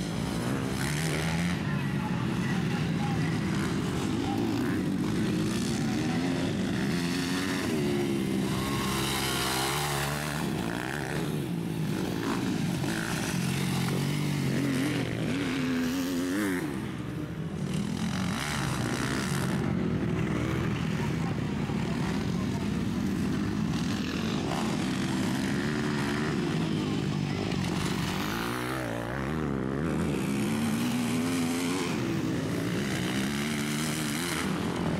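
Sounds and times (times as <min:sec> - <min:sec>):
motocross bikes revving: 0:00.0 - 0:34.9.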